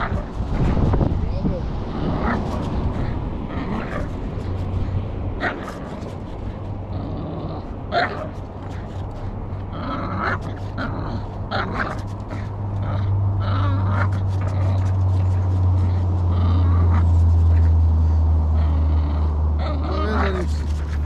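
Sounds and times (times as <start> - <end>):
dog growling low: 1.7 - 21.0.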